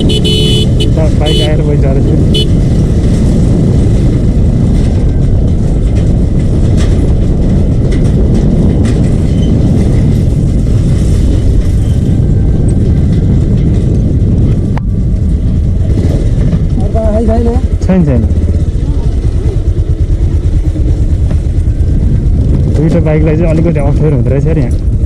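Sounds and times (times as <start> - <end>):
motorcycle engine: 0.0 - 25.0
wind rush: 0.0 - 25.0.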